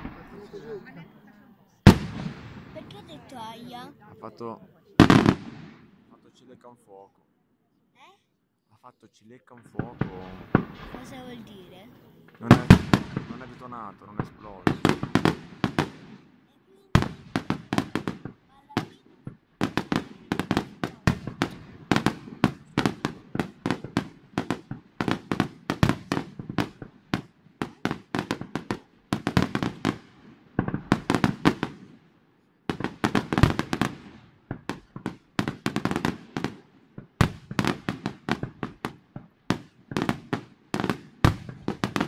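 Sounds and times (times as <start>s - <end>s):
fireworks bursting: 0.0s - 1.2s, 1.8s - 7.1s, 9.4s - 42.0s.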